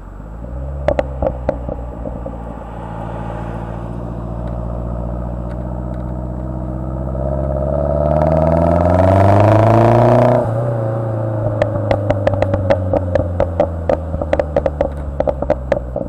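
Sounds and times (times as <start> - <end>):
car engine revving: 0.0 - 16.0
exhaust pops and crackles: 0.7 - 2.6, 4.3 - 9.3, 10.0 - 16.0.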